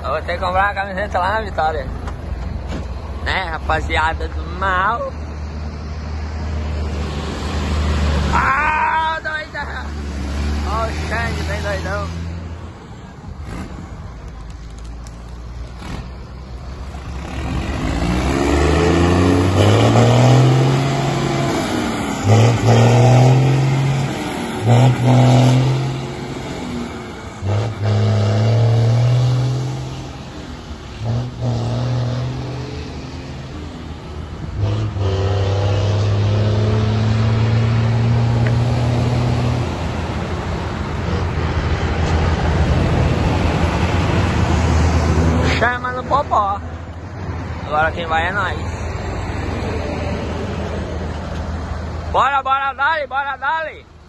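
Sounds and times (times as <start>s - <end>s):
truck diesel engine accelerating: 0.0s - 52.3s.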